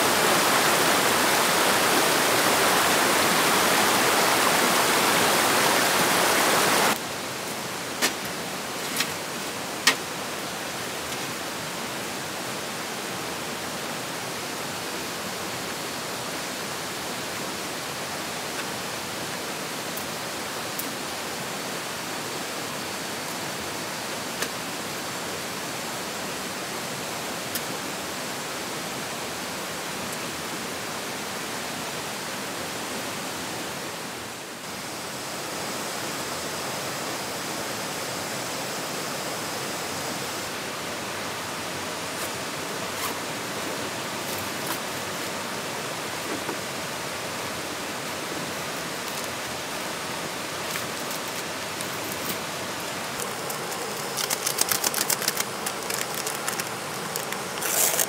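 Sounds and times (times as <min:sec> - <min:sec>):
rocky stream rushing: 0:00.0 - 0:58.0.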